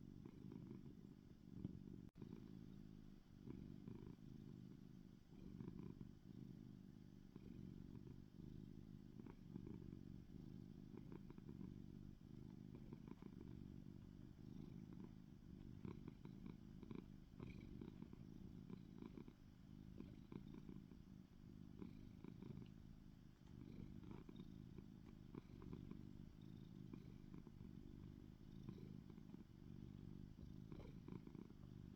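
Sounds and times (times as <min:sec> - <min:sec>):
cat purring: 0:00.0 - 0:31.9.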